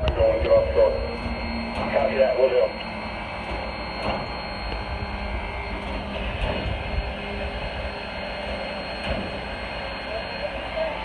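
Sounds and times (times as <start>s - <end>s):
train locomotive idling: 0.0s - 11.0s.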